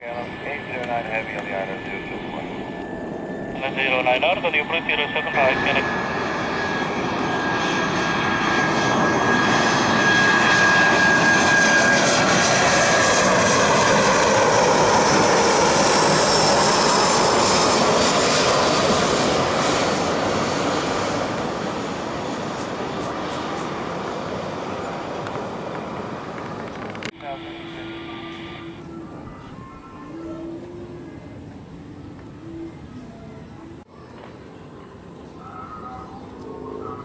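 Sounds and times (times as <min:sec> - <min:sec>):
jet airliner passing overhead: 0:00.0 - 0:33.9, 0:34.7 - 0:37.0.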